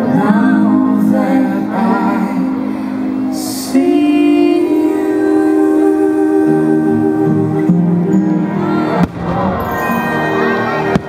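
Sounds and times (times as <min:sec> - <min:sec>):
music with singing over loudspeakers: 0:00.0 - 0:11.0.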